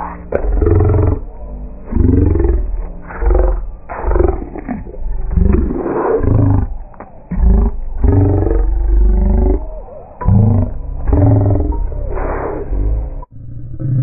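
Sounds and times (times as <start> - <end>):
slowed deep roar-like voice: 0.0 - 14.0.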